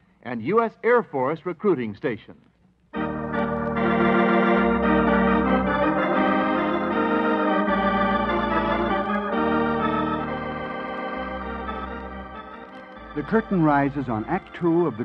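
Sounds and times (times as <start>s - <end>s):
organ chords: 2.9s - 15.0s.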